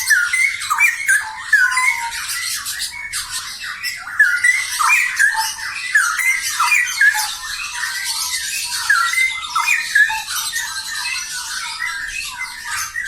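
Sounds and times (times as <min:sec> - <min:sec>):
birds warbling song: 0:00.0 - 0:13.0.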